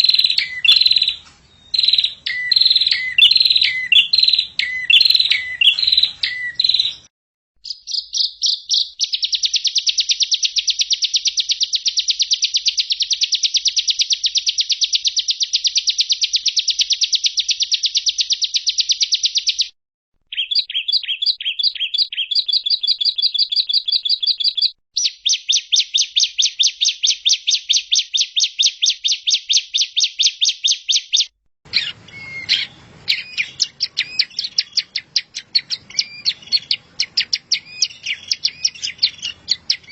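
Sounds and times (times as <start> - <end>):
bird chirping: 0.0 - 19.7, 20.3 - 39.9
songbird trills: 0.0 - 19.7, 20.3 - 39.9.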